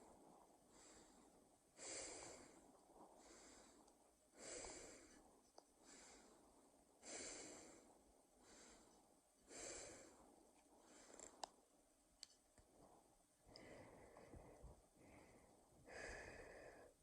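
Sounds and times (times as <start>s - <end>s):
person breathing loudly: 0.7s - 11.4s, 13.5s - 17.0s.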